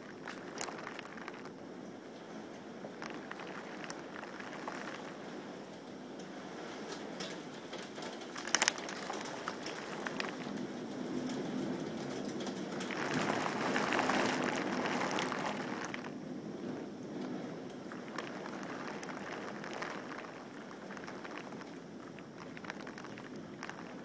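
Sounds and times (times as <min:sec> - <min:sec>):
rain hissing: 0:00.0 - 0:24.0.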